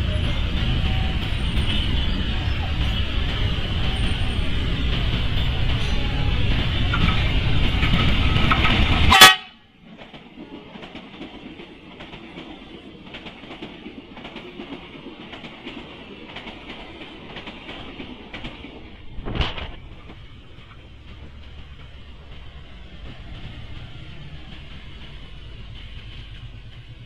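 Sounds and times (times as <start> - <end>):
train wheels clicking over rail joints: 0.0 - 27.0.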